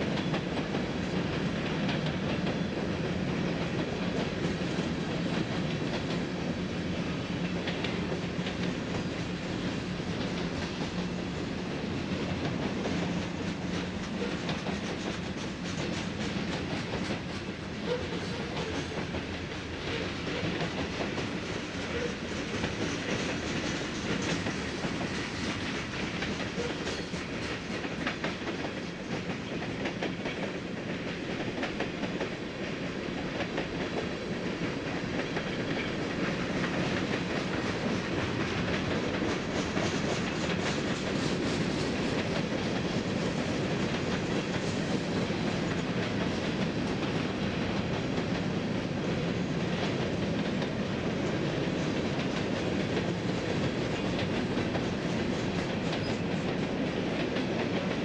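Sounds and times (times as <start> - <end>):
steel wheels rolling on rail: 0.0 - 58.0.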